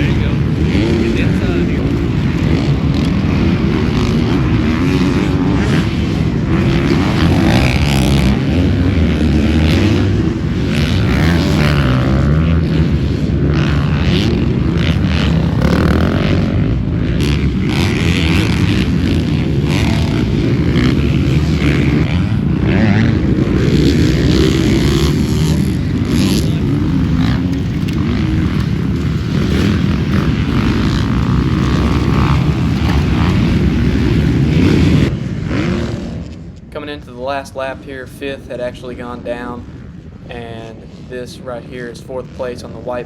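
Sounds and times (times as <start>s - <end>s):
dirt bike engine revving: 0.0s - 37.7s.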